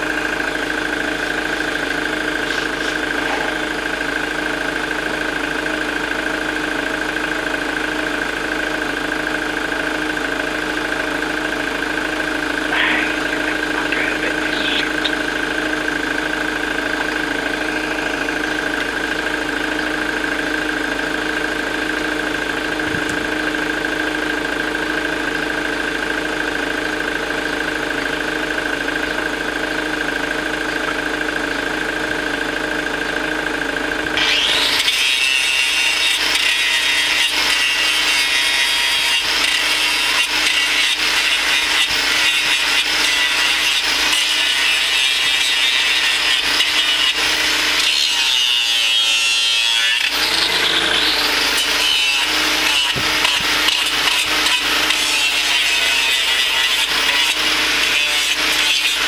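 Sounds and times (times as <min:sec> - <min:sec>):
grinder cutting hoof: 0:00.0 - 0:59.0
steady mechanical hum: 0:00.0 - 0:59.0.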